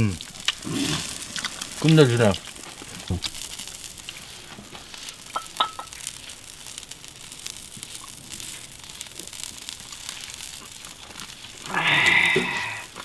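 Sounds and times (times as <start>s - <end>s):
charcoal grill crackling and sizzling: 0.0s - 13.0s
sharp pops: 0.2s - 13.0s.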